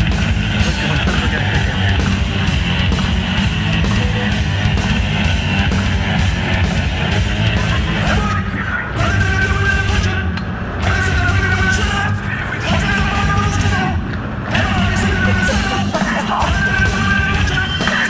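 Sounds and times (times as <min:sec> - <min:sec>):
heavy metal music with electric guitar: 0:00.0 - 0:18.0.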